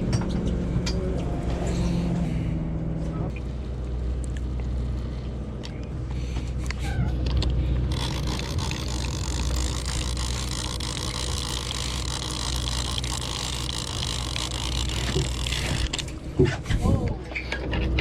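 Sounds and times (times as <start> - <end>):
boat motor humming: 0.0 - 16.8.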